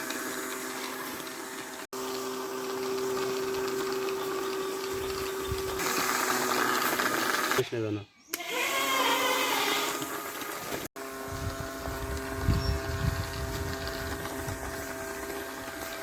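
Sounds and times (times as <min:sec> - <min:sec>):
electric motor whine: 0:00.0 - 0:07.6, 0:08.3 - 0:16.0.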